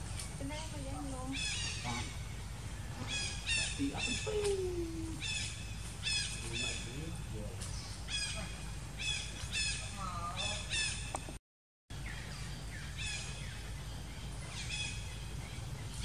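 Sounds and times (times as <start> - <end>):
bird calling: 0.2 - 11.4, 12.0 - 16.0.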